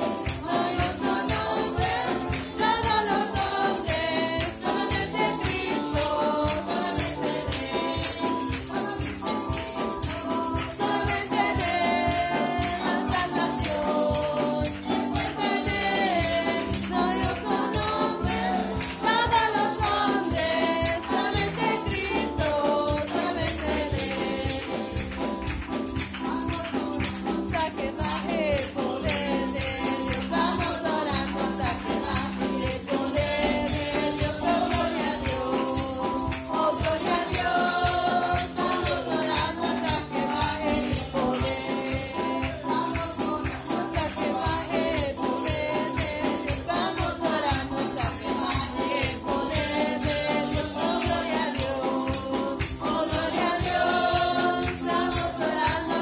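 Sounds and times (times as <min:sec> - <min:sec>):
voices singing along: 0:00.0 - 0:24.9, 0:26.1 - 0:56.0
woman singing into a microphone: 0:00.0 - 0:25.1, 0:25.9 - 0:56.0
drum kit with cymbals: 0:00.0 - 0:56.0
piano: 0:00.0 - 0:56.0.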